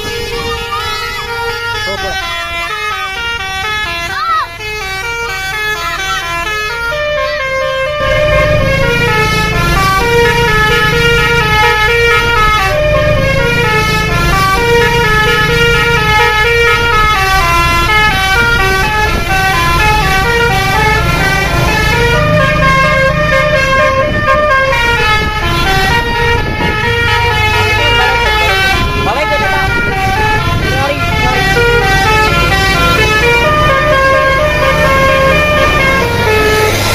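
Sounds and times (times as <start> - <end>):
bus engine running: 0.0 - 36.9
multi-tone air horn tune: 0.0 - 36.9.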